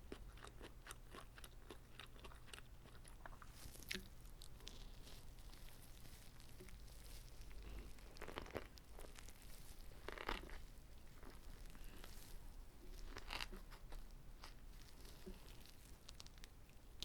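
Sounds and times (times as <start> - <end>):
moist chewing with clicks: 0.0 - 17.0
crisp crunchy bites: 0.2 - 16.6.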